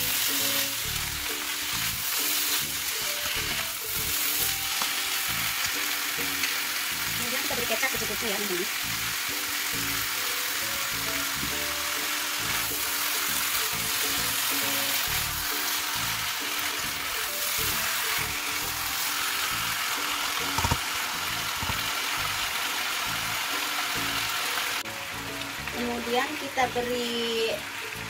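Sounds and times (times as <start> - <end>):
background music with held notes: 0.0 - 28.0
chicken sizzling in a wok: 0.0 - 28.0.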